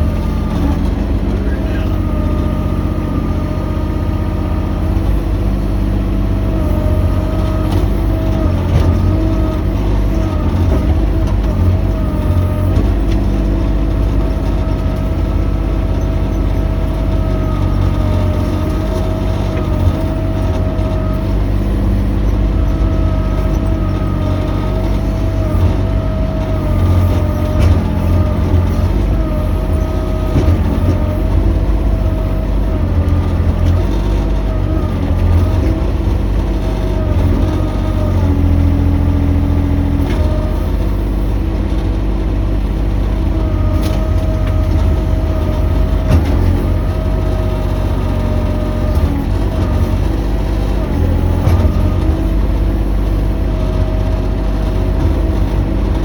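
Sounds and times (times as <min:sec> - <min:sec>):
excavator engine whining: 0:00.0 - 0:56.0.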